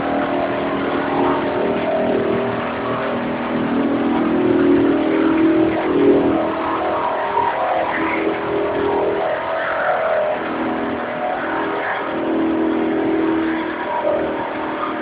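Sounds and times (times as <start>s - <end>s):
car engine revving high: 0.0s - 15.0s.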